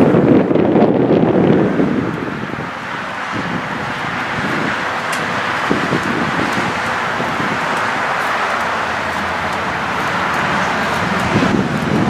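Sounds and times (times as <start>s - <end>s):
vehicle road noise: 0.0s - 12.0s.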